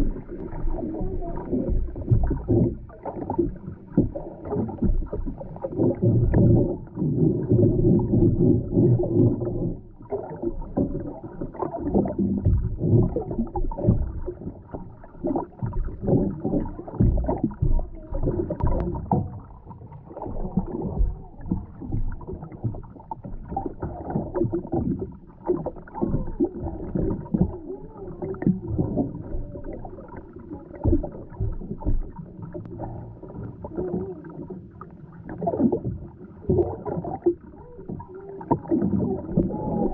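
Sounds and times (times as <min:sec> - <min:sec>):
water moving underwater: 0:00.0 - 0:39.9.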